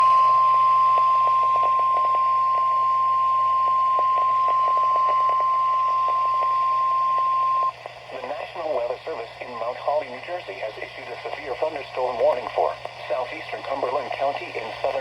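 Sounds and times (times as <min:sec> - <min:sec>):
faint radio static crackling: 0:00.0 - 0:15.0.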